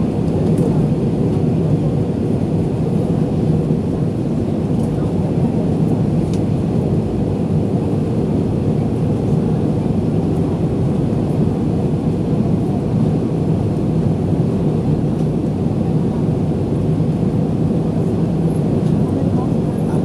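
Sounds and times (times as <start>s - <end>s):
aircraft engines roaring: 0.0s - 20.0s.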